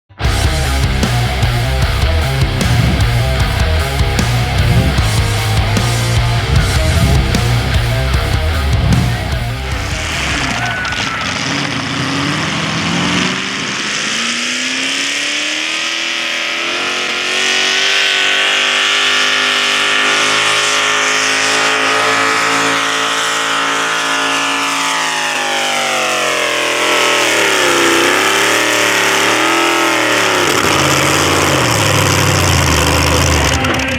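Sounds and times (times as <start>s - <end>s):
engine revving at full throttle: 0.2s - 33.9s.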